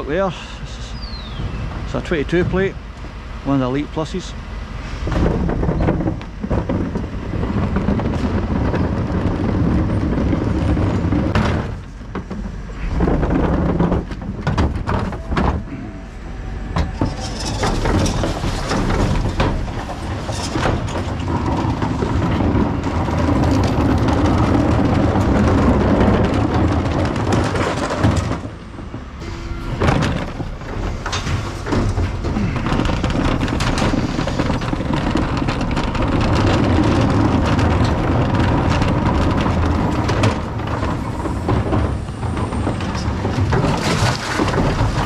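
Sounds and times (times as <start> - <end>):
refuse truck running: 0.0 - 45.0
wheelie bin rumbling over tarmac: 0.0 - 45.0
bin lift clanks and knocks: 5.0 - 45.0.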